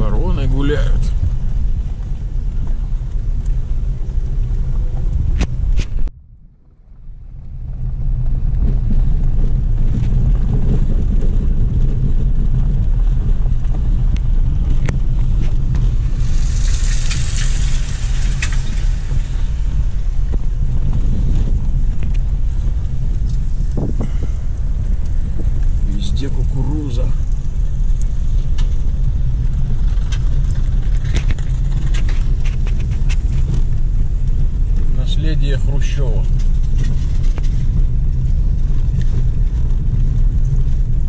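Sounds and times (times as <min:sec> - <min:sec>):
car engine and tyre rumble: 0:00.0 - 0:41.0
wind on microphone: 0:00.0 - 0:41.0.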